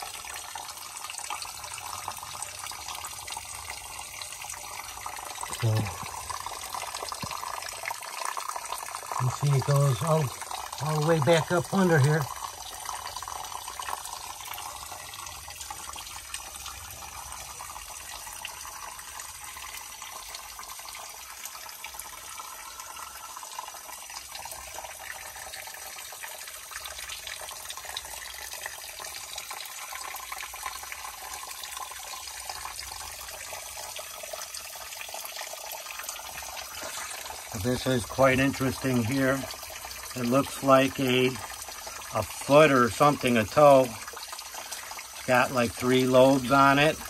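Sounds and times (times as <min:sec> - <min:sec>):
creek water trickling over rock: 0:00.0 - 0:47.0.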